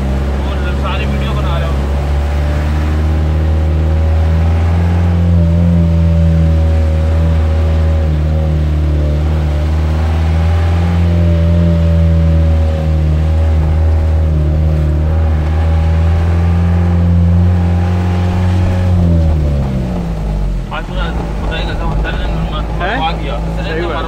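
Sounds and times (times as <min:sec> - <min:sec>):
engine hum inside vehicle cab: 0:00.0 - 0:24.0.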